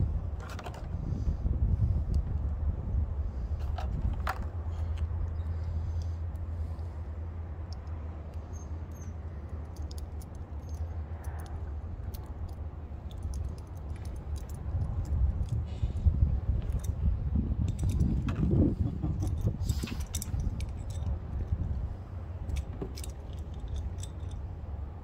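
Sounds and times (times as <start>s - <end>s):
wind buffeting microphone: 0.0s - 8.0s, 11.6s - 25.0s.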